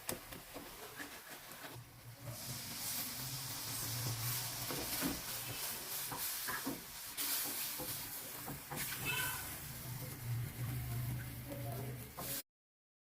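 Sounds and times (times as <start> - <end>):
food sizzling in a pan: 0.0 - 12.4.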